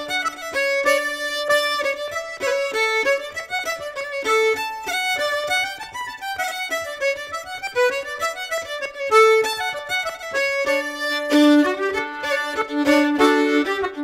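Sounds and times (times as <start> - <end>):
fiddle and concertina folk tune: 0.0 - 14.0.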